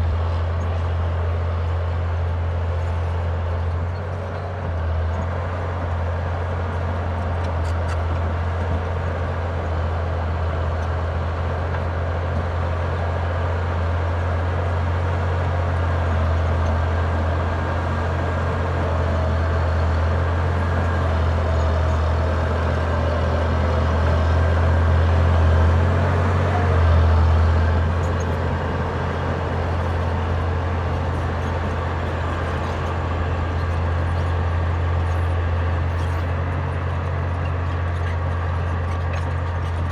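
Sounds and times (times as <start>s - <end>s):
diesel dozer engine drone: 0.0s - 39.9s.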